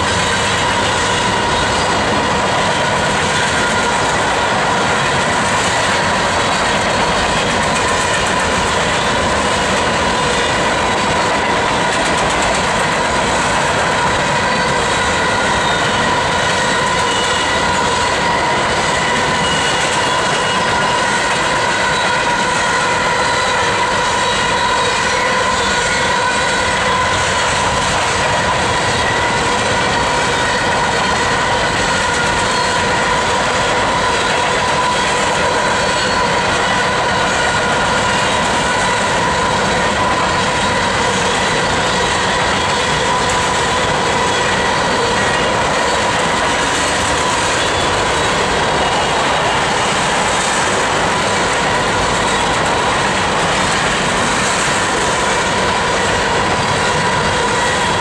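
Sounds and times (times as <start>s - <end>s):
steel wheels rushing on rail: 0.0s - 58.0s.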